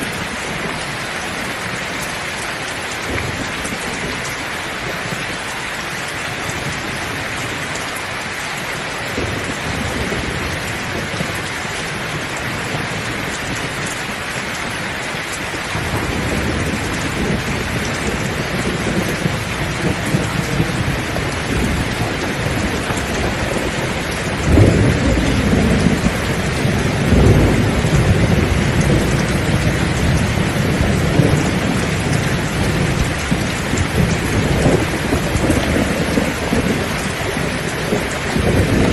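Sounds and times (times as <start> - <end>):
heavy rain falling: 0.0 - 38.9
thunder rumbling: 0.0 - 38.9.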